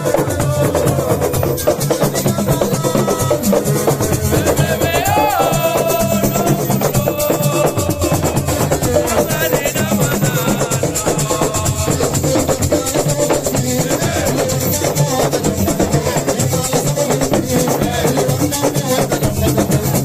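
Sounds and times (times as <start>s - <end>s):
drums: 0.0s - 20.0s
voices singing or calling: 0.0s - 20.0s.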